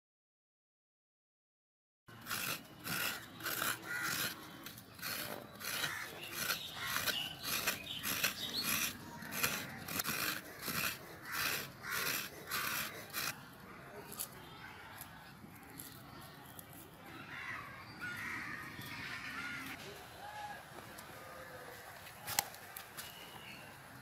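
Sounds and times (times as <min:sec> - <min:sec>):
coconut flesh scraping: 0:02.1 - 0:19.8, 0:21.6 - 0:23.6.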